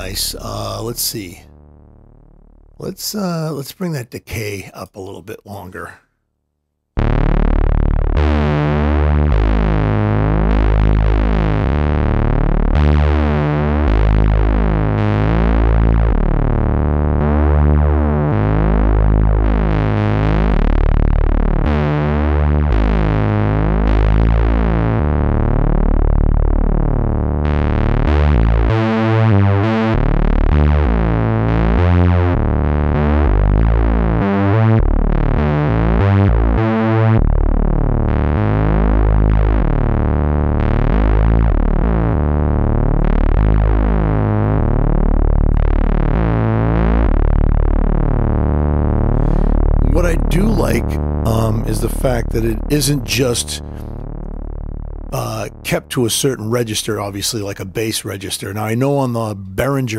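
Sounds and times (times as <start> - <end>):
synthesizer bass line: 0.0 - 3.6, 7.0 - 59.9.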